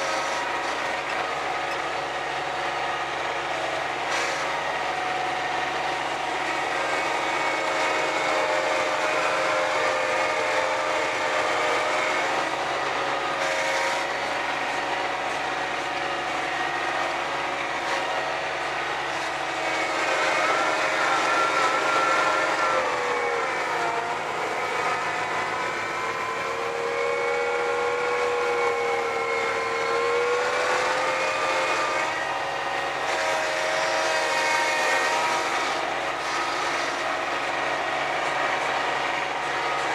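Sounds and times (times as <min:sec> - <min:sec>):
tractor engine and snowblower running: 0:00.0 - 0:39.9.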